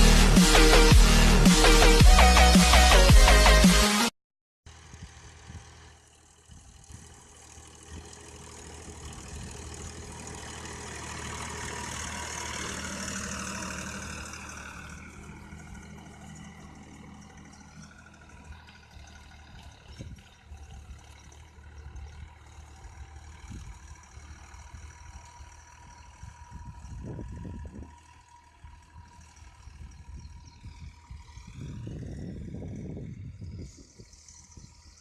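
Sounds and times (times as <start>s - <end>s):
tractor diesel engine under load: 0.0s - 3.8s, 4.7s - 35.0s.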